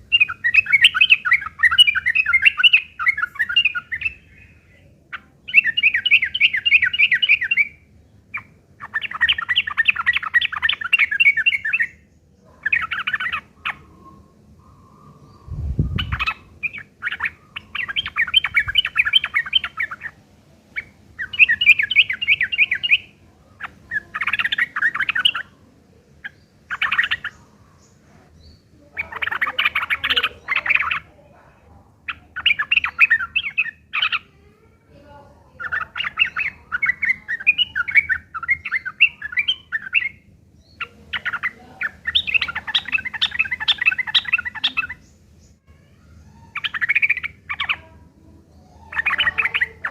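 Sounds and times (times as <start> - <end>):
bulbuls harsh chattering: 0.0 - 49.9.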